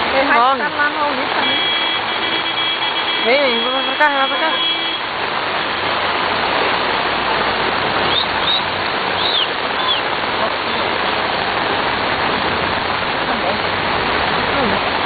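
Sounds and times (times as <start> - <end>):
floodwater rushing: 0.0 - 15.0
heavy rain: 0.0 - 15.0.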